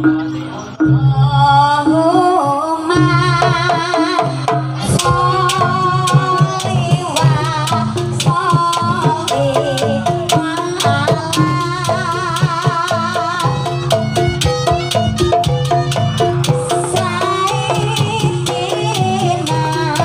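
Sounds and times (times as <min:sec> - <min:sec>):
drum strokes: 0:00.0 - 0:20.0
wavering high melody: 0:00.0 - 0:20.0.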